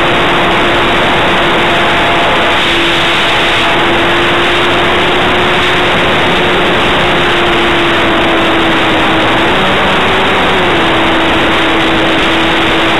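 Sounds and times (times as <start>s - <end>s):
propeller wash rushing: 0.0s - 12.9s.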